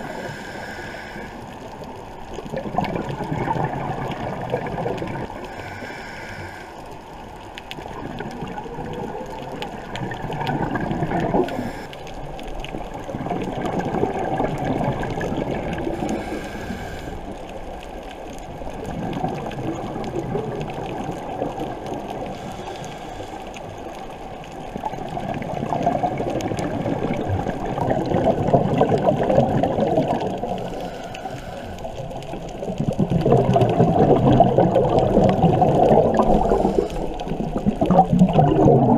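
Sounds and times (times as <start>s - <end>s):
underwater bubbling and gurgling: 0.0s - 38.9s.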